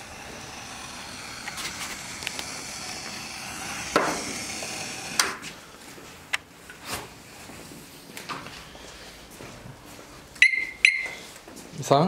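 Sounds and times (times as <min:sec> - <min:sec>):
workshop background hiss: 0:00.0 - 0:12.0.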